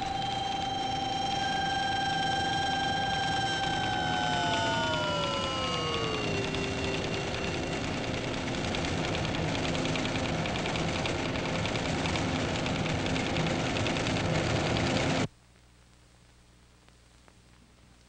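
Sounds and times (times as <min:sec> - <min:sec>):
machinery chattering din: 0:00.0 - 0:14.6.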